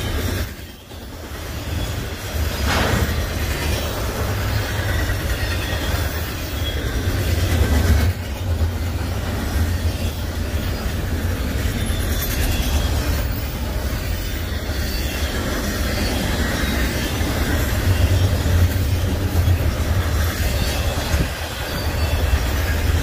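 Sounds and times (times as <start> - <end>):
freight train wheels on rails: 0.0 - 23.0.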